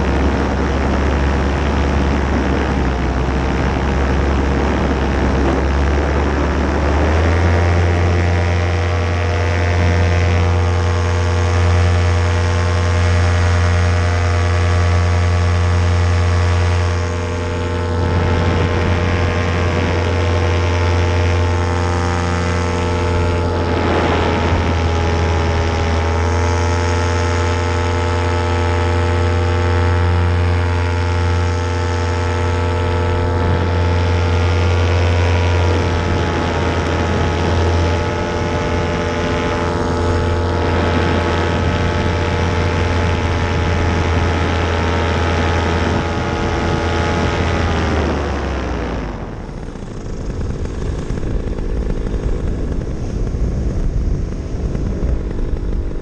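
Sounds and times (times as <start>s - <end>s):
paramotor engine and propeller: 0.0s - 56.0s
rough rushing noise: 0.0s - 56.0s.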